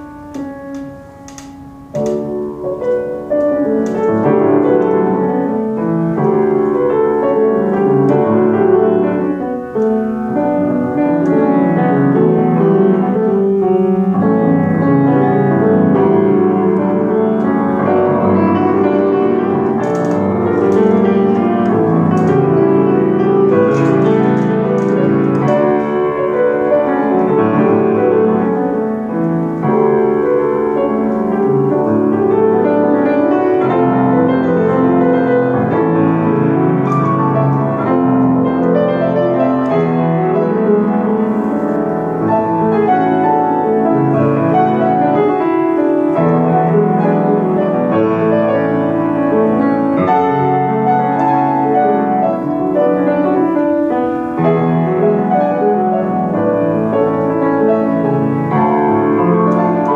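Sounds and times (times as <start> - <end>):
solo grand piano: 0.0 - 59.9.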